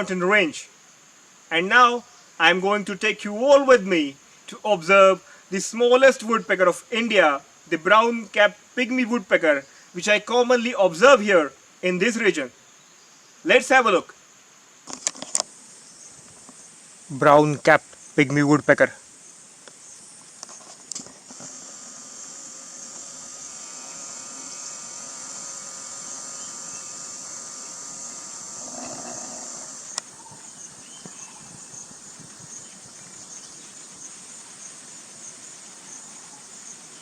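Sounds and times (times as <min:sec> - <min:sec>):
insects shrilling: 0:00.0 - 0:37.0.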